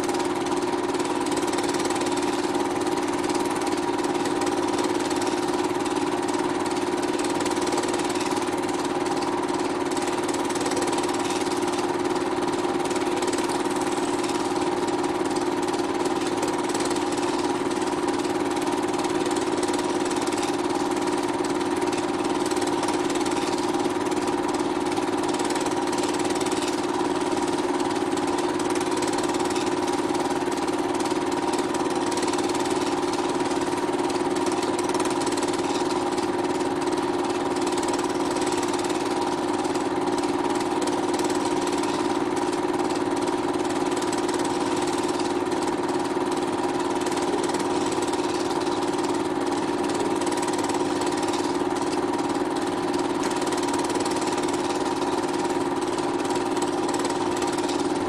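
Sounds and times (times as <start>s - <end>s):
film projector motor whirring: 0.0s - 58.0s.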